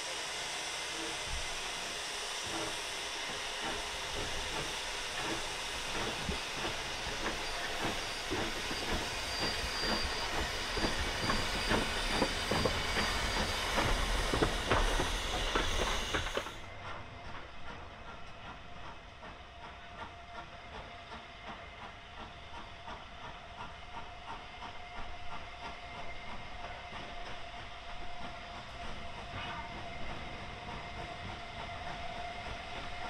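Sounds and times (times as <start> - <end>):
steam hissing: 0.0 - 33.0
steam locomotive beats: 0.0 - 33.0.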